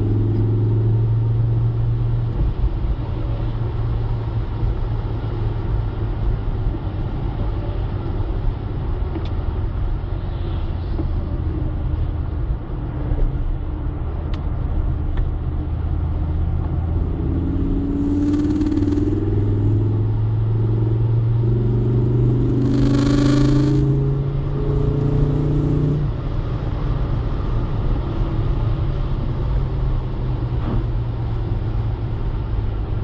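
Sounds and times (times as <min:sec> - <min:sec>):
car engine drone: 0:00.0 - 0:33.0.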